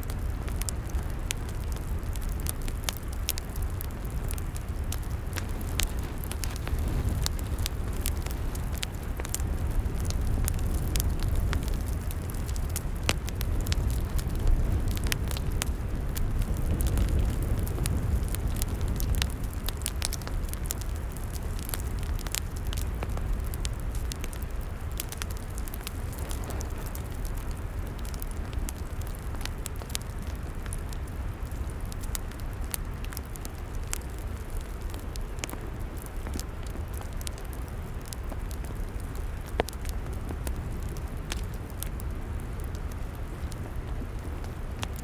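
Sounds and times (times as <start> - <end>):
log fire crackling and popping: 0.0 - 45.0.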